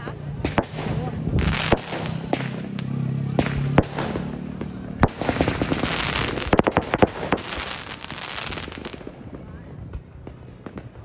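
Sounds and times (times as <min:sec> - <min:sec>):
firework bangs: 0:00.4 - 0:09.5
fireworks crackling: 0:00.4 - 0:09.5.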